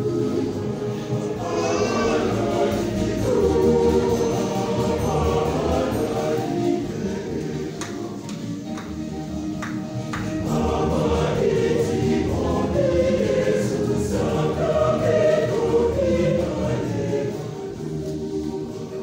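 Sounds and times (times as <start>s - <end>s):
choir singing gospel song: 0.0s - 19.0s.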